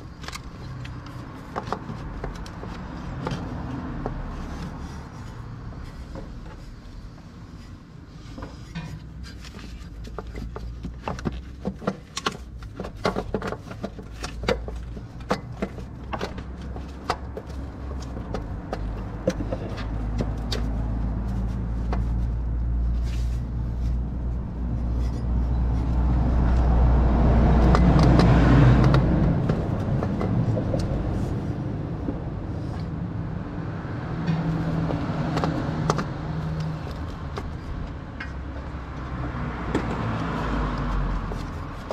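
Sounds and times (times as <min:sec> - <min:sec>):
sharp clicks and knocks: 0:00.0 - 0:05.3, 0:08.3 - 0:22.7, 0:24.6 - 0:33.0, 0:34.1 - 0:41.9
low vehicle rumble: 0:00.0 - 0:41.9.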